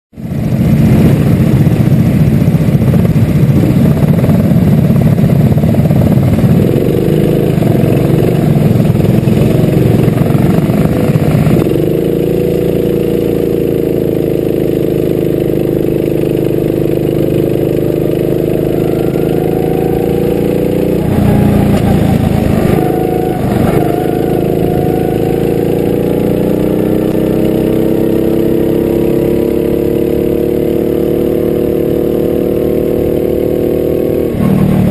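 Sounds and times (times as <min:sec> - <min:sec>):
go-kart engines rumbling: 0:00.2 - 0:34.9
go-kart engine revving: 0:00.3 - 0:34.9.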